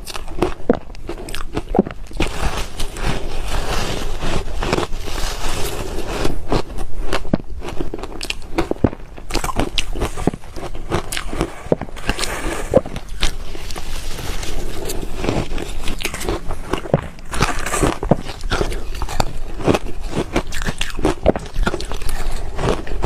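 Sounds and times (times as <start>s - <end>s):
ice crunching between teeth: 0.0s - 23.0s.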